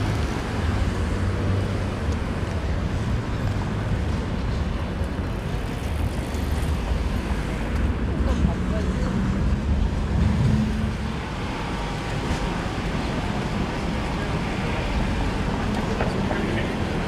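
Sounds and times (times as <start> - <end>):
rumble of passing vehicles: 0.0 - 17.0.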